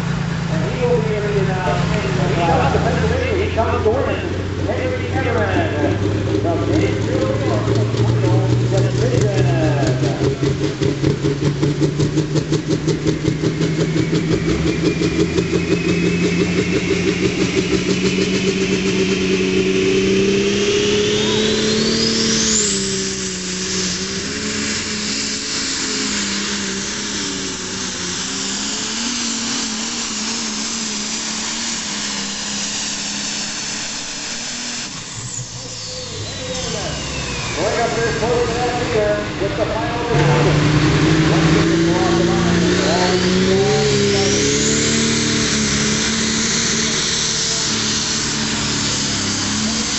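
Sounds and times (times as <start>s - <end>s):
diesel tractor engine labouring: 0.0s - 49.9s
turbo whine: 0.0s - 49.9s.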